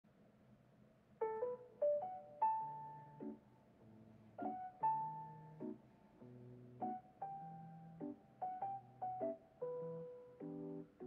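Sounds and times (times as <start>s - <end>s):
soft piano melody: 1.1s - 11.0s.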